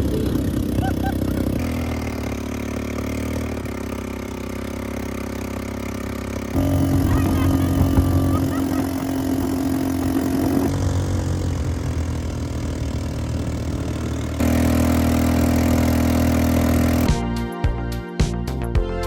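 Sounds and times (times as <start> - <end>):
small vehicle engine running: 0.0 - 19.0.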